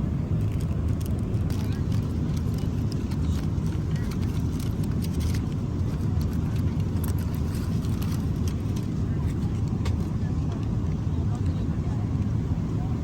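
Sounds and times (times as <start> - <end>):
vehicle rumble inside cabin: 0.0 - 13.0.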